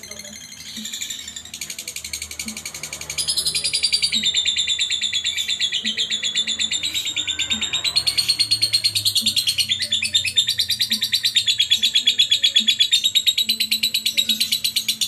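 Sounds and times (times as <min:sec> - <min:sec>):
bird chattering high chirps: 0:00.0 - 0:15.0.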